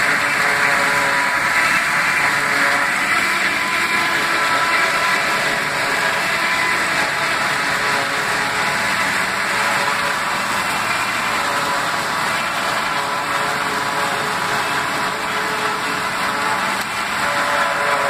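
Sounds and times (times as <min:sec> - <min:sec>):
forage harvester chopping corn: 0:00.0 - 0:18.0
tractor engine under load: 0:00.0 - 0:18.0.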